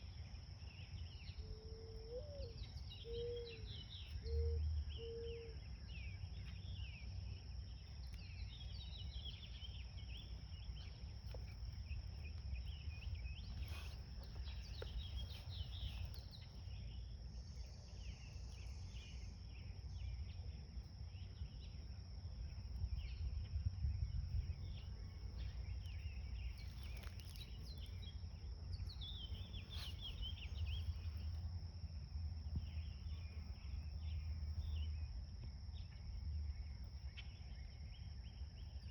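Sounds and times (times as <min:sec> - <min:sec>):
high insect trill: 0:00.0 - 0:38.9.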